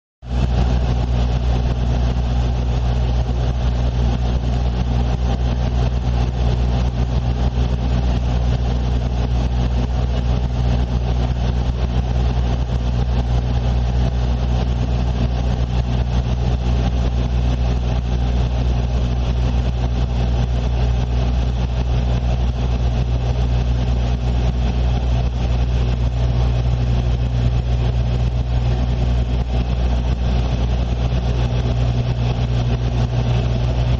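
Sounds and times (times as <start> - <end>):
airliner engines droning in cabin: 0.3 - 33.9.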